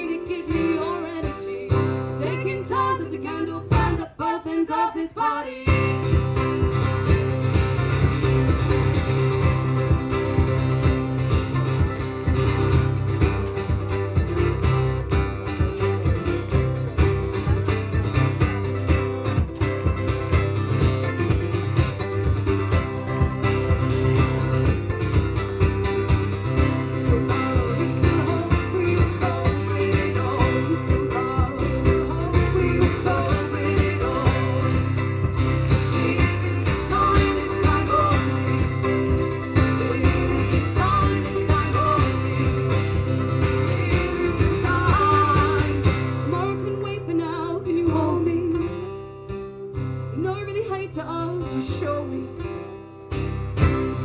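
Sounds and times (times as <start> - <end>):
strummed guitars: 0.0 - 54.0.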